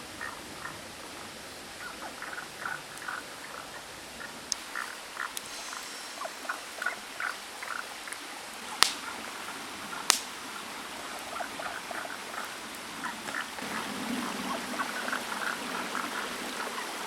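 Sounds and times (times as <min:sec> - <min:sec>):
running stream: 0:00.0 - 0:17.0
frogs calling: 0:01.8 - 0:17.0.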